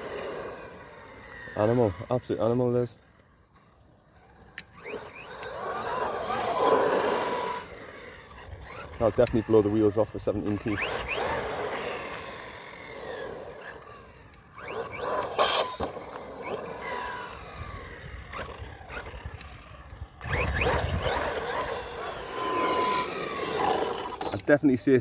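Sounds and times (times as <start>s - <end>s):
electric motor whining: 0.0s - 24.5s.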